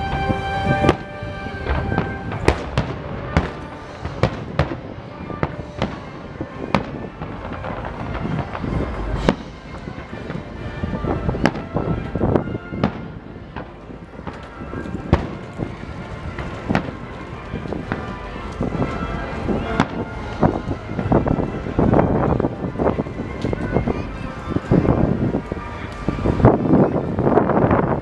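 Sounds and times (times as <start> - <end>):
fireworks bangs and booms: 0.0 - 28.0.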